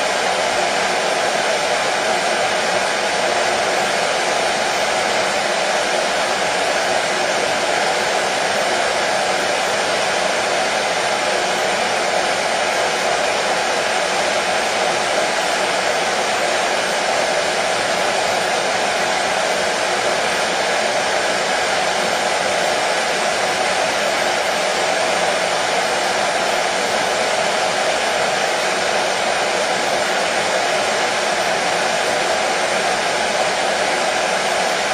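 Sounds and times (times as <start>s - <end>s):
hair dryer blowing: 0.0s - 34.9s.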